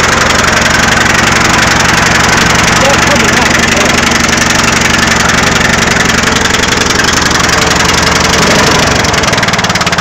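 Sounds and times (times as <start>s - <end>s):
lawn tractor engine running: 0.0s - 10.0s.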